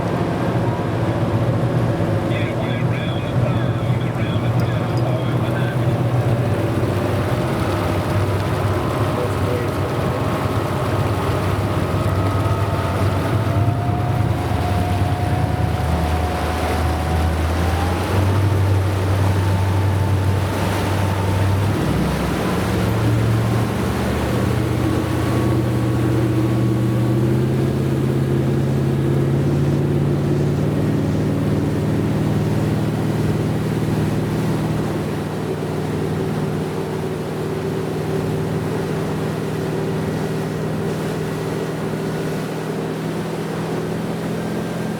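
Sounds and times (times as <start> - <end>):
motorboat engine running: 0.0 - 44.9
water rushing: 0.0 - 44.9.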